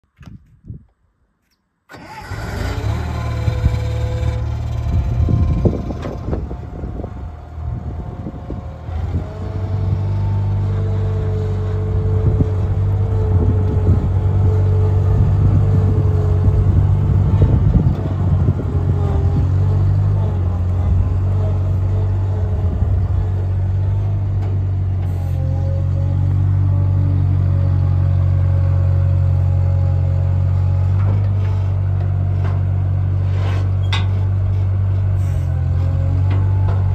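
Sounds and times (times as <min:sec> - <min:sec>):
skid steer loader engine running: 0:01.9 - 0:36.9.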